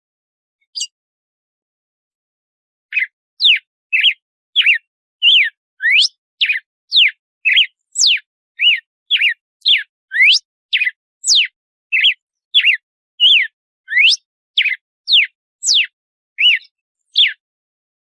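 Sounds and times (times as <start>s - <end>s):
bird whistling song: 0.6s - 1.0s, 2.9s - 17.4s.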